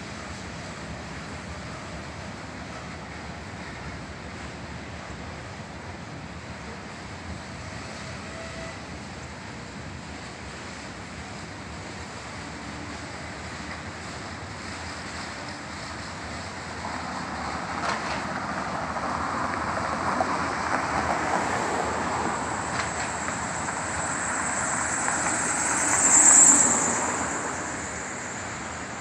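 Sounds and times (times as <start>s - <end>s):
train rumbling over a bridge: 0.0s - 29.0s.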